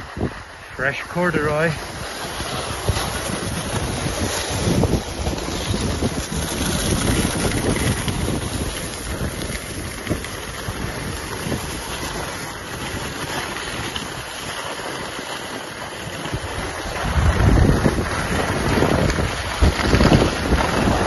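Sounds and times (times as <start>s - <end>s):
skis hissing on snow: 0.0s - 21.0s
wind rushing over microphone: 0.0s - 21.0s.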